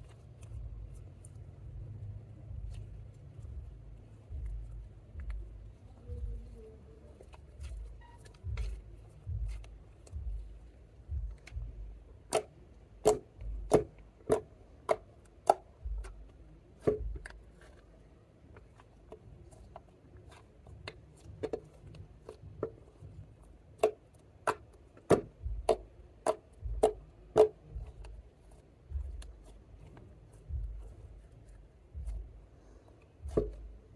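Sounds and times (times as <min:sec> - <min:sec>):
soft squish of slime: 0:00.0 - 0:33.9.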